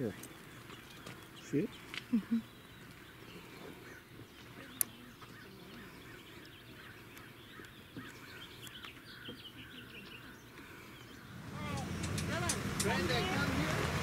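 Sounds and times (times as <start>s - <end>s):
small birds chirping: 0.0s - 13.7s
faint outdoor background noise: 0.0s - 14.0s.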